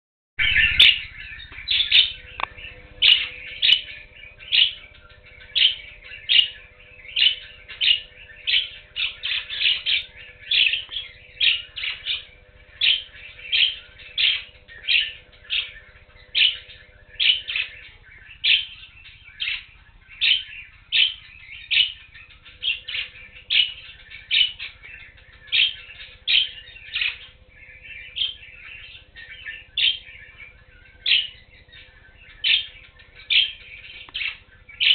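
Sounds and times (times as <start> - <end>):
budgerigars chirping: 0.4 - 34.9
soft bird chatter: 0.4 - 34.9.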